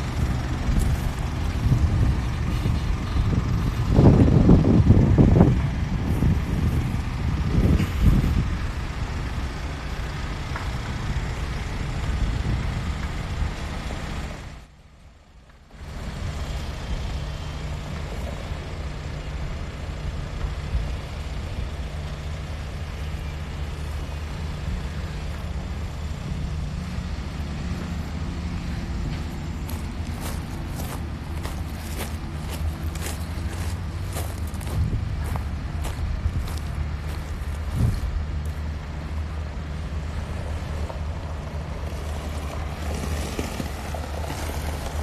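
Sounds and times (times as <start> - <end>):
tyres on gravel: 0.0 - 12.2, 15.4 - 45.0
truck engine humming: 0.0 - 45.0.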